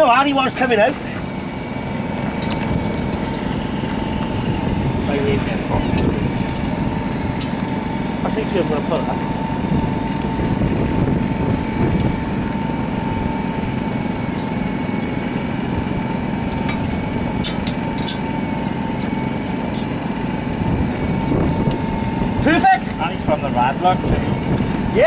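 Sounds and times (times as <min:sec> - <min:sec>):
machine whine over hum: 0:00.0 - 0:25.0.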